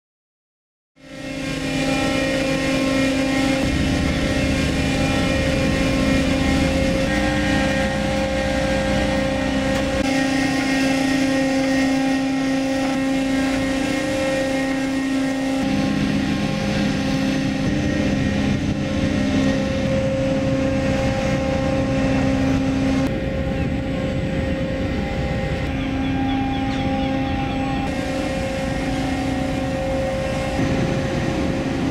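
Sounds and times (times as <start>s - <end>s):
diesel engines droning: 1.0s - 31.9s.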